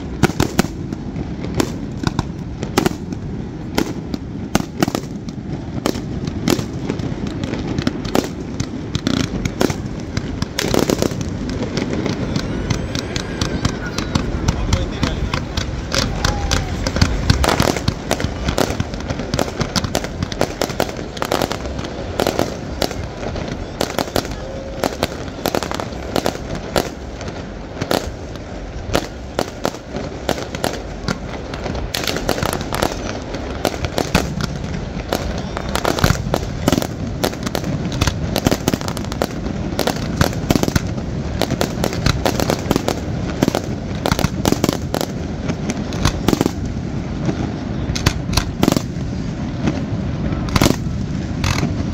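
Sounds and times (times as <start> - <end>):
fireworks bangs and crackles: 0.0 - 51.9
steady low rumble: 0.0 - 51.9.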